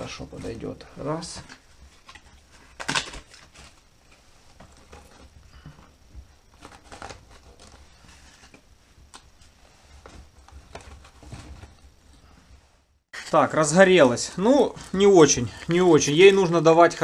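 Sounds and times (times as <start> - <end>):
fire crackling in wood stove: 0.0 - 17.0.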